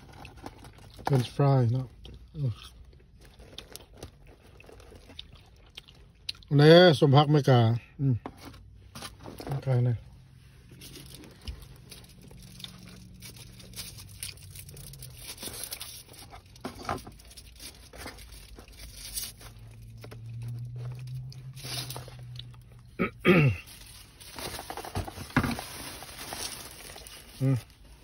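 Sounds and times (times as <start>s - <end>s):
chewing and crunching food: 0.0s - 7.4s, 10.2s - 28.0s.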